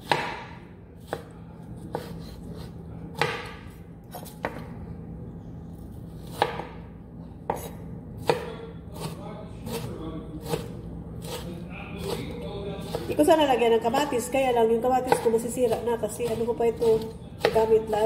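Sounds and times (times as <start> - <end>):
knife chopping on cutting board: 0.0 - 4.8, 6.1 - 13.1, 15.0 - 18.0.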